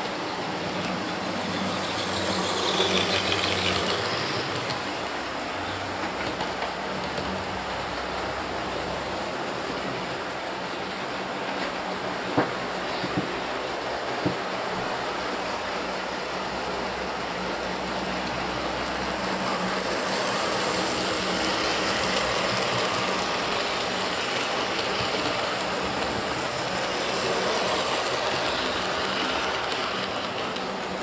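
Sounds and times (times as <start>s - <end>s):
model train wheels rumbling on rail: 0.0s - 31.0s.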